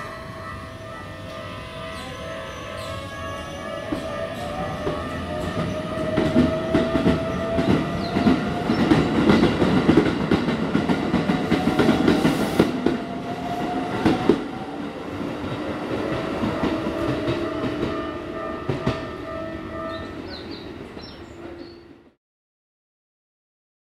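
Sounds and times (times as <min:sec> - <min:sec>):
train inverter whine: 0:00.0 - 0:22.0.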